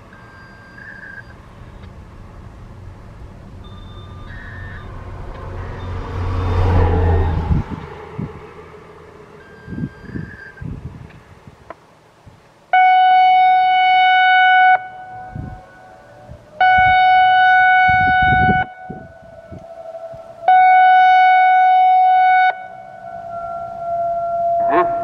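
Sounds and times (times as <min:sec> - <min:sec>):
faint rising siren tone: 0:00.0 - 0:11.2, 0:12.8 - 0:25.0
loud steady siren blasts: 0:00.0 - 0:11.2, 0:12.7 - 0:25.0.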